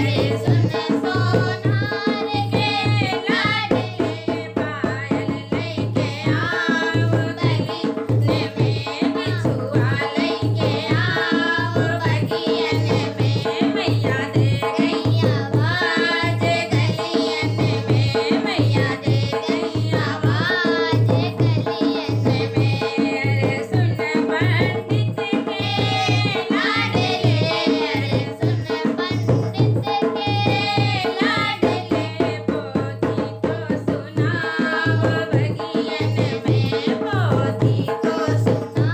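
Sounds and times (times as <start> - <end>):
hand drum rhythm: 0.0 - 38.9
person singing devotional song: 0.0 - 38.9.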